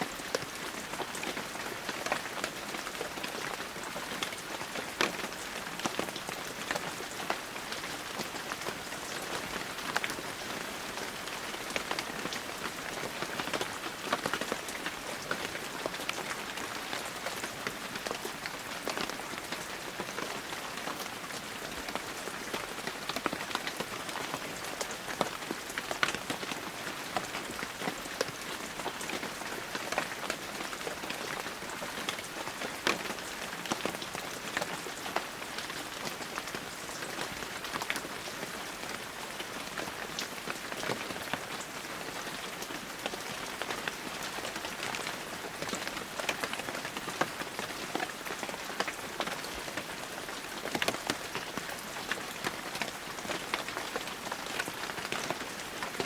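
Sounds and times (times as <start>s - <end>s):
heavy rain falling: 0.0s - 56.0s
raindrops striking close by: 0.1s - 56.0s.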